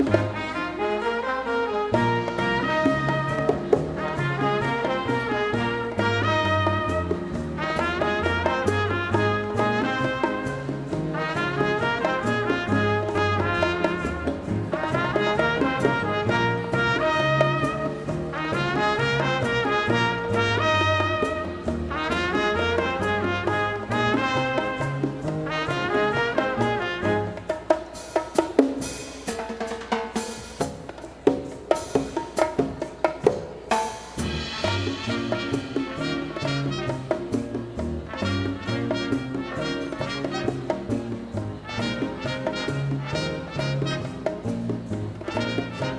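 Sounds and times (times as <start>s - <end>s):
trumpets and trombones: 0.0s - 30.7s, 33.7s - 45.9s
big band latin dance music: 0.0s - 45.9s.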